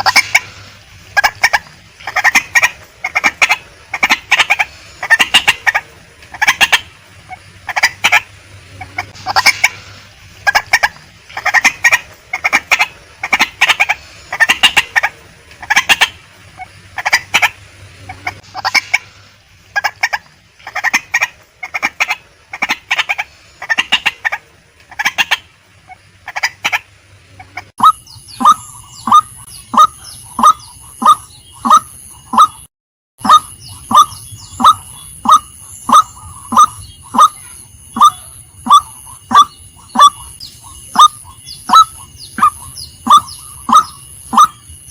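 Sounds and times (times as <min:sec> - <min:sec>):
waterhen calling: 0:00.0 - 0:44.9.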